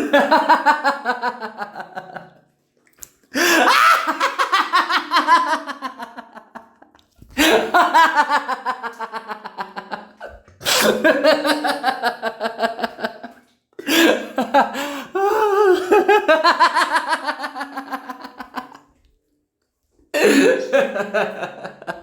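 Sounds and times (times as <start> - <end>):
maniacal laugh: 0.0 - 2.4, 3.4 - 13.3, 13.9 - 18.8, 20.5 - 22.0.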